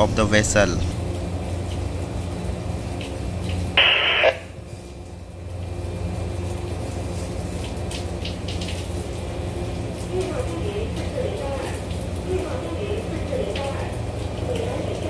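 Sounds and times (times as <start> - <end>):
loud static hiss: 0.0 - 15.0
low machinery hum: 0.0 - 15.0.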